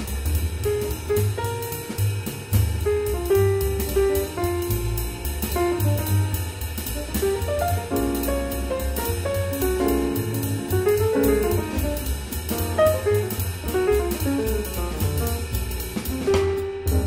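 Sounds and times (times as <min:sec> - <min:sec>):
bass: 0:00.0 - 0:17.0
piano melody: 0:00.0 - 0:17.0.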